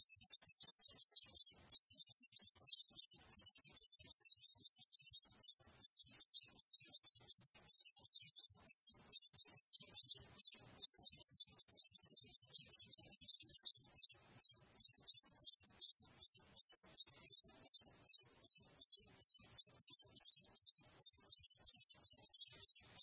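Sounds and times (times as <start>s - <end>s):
nestlings cheeping: 0.0s - 23.0s.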